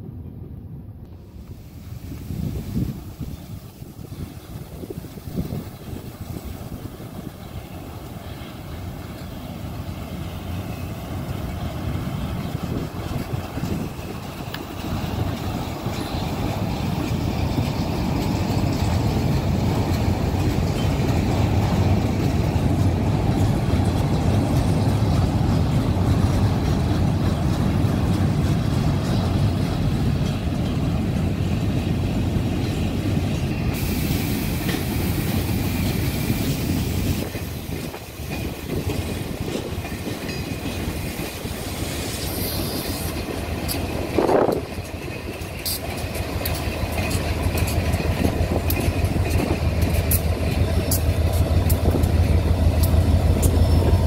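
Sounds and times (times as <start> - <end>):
diesel locomotives: 0.0 - 54.0
freight train rumbling past: 0.0 - 54.0
wheels clacking over rail joints: 1.4 - 54.0.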